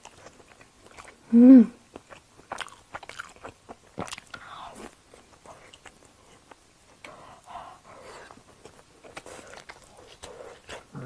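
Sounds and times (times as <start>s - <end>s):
chewing with wet mouth clicks: 0.0s - 1.2s, 1.9s - 7.2s, 8.2s - 10.9s.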